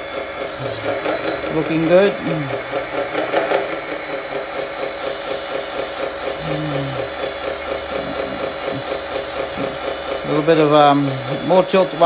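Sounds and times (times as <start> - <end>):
model dozer hydraulic hum: 0.0 - 12.0.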